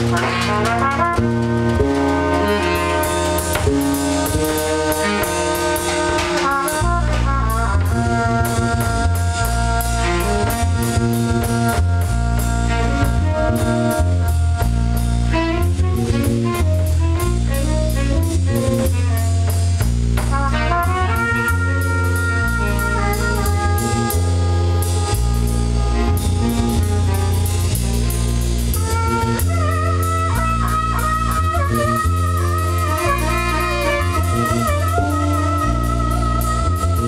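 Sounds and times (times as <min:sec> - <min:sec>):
drum kit with cymbals: 0:00.0 - 0:37.0
electric bass guitar: 0:00.0 - 0:37.0
saxophone: 0:00.0 - 0:37.0
trumpet: 0:00.0 - 0:37.0.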